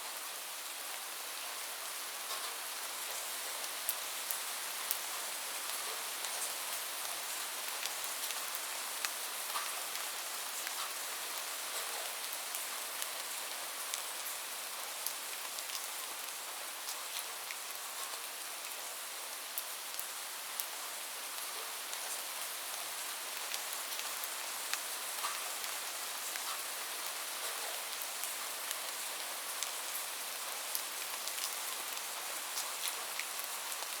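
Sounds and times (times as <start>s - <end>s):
rain falling: 0.2s - 34.0s.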